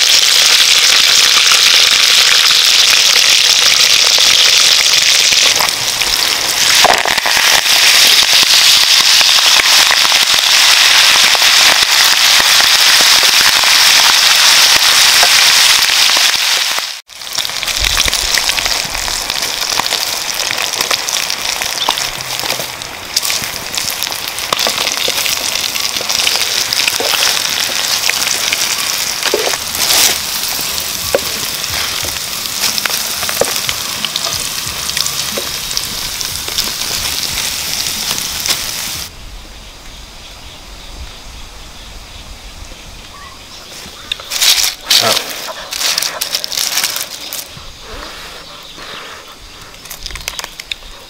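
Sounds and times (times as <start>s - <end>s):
hot oil sizzling and crackling: 0.0s - 43.4s, 44.0s - 51.0s.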